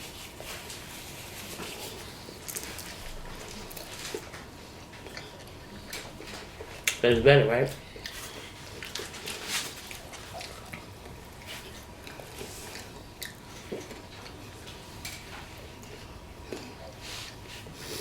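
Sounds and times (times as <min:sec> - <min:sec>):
people chewing food: 0:00.0 - 0:07.0, 0:07.7 - 0:18.0.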